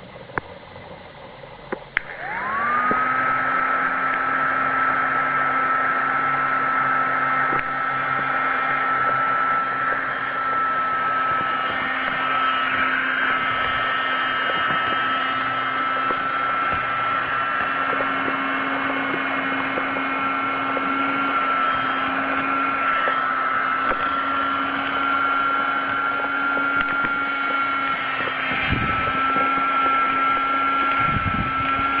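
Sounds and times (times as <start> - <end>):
small vacuum cleaner motor whining: 0.0 - 32.0.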